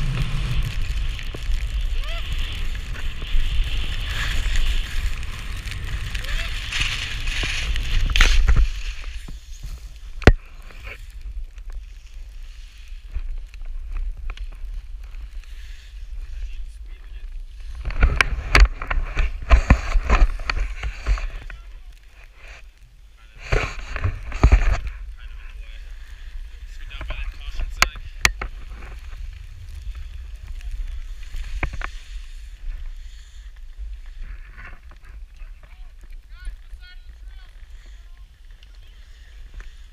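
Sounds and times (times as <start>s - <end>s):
skis swishing through snow: 0.0s - 39.9s
wind rumble on microphone: 0.0s - 39.9s.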